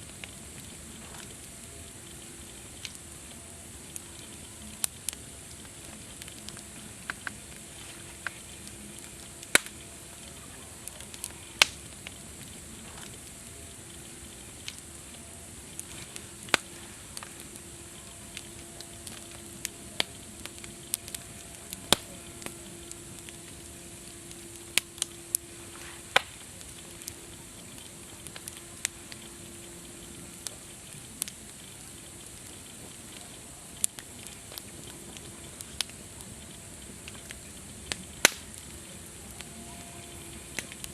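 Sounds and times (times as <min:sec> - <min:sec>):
campfire crackling and popping: 0:00.0 - 0:40.9
fire hissing: 0:00.0 - 0:40.9.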